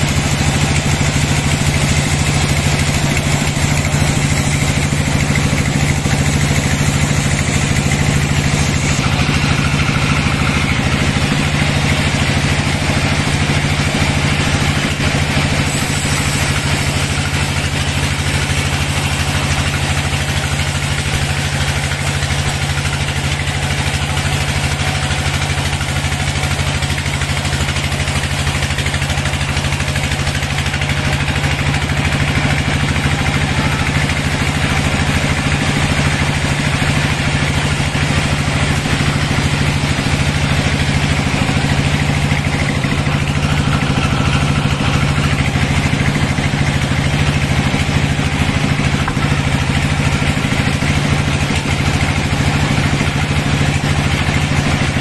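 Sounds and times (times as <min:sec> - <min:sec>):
saw hissing through wood: 0:00.0 - 0:55.0
sawmill machine drone: 0:00.0 - 0:55.0.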